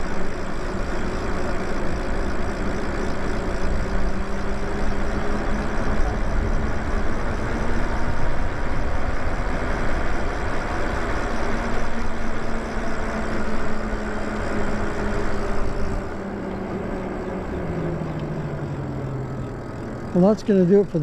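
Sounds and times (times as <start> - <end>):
electric motor whine: 0.0 - 21.0
wind and road rush: 0.0 - 21.0.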